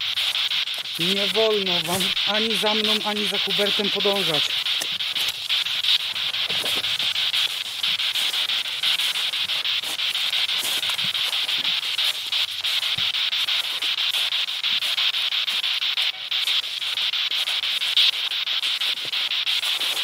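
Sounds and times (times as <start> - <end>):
pulsing radio static: 0.0 - 20.0.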